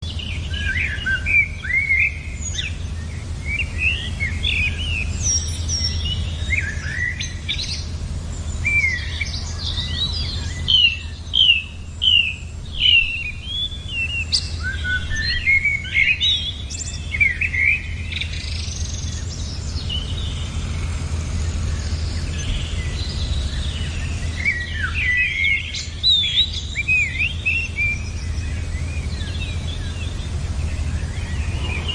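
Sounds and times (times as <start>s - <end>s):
small birds chirping: 0.0s - 31.9s
steady low hum: 0.0s - 31.9s.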